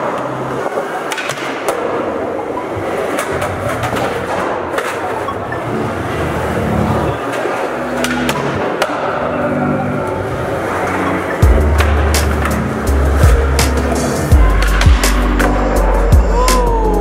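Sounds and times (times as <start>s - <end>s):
skateboard clacking: 0.0s - 6.3s, 6.9s - 15.8s
skateboard wheels rumbling: 0.0s - 16.1s.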